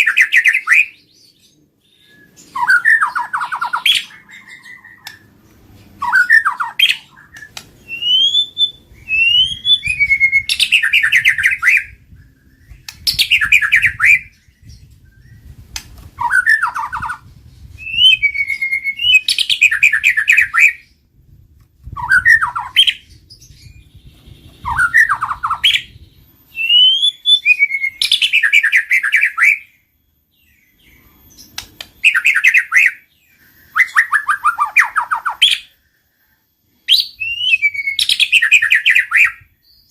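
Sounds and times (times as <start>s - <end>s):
bird whistled calls with trills: 0.0s - 1.0s, 1.9s - 5.3s, 6.0s - 21.0s, 21.8s - 36.0s, 36.8s - 39.9s.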